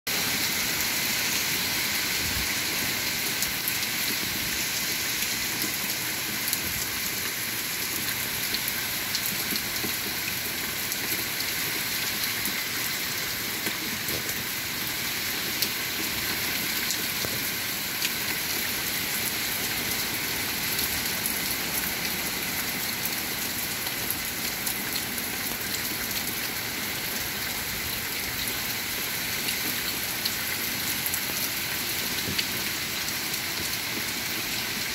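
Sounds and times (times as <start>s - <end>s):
heavy rain pouring: 0.1s - 34.9s
raindrops ticking close by: 2.9s - 34.9s.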